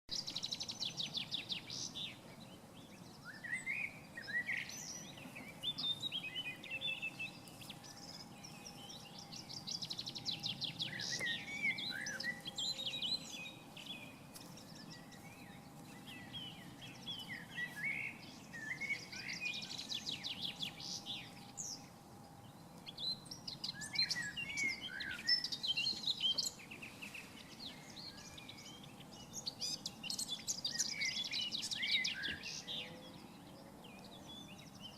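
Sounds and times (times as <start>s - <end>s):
birds twittering and chirping: 0.1s - 34.9s.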